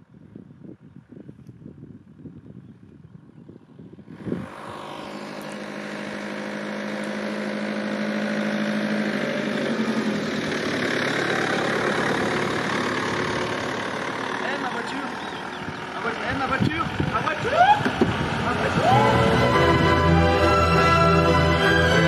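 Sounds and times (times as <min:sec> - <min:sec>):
car approaching: 0:03.5 - 0:22.0.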